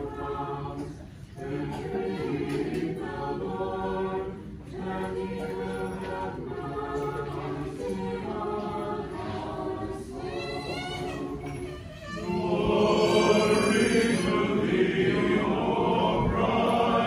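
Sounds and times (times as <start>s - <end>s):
choir singing a cappella chant: 0.0s - 17.0s.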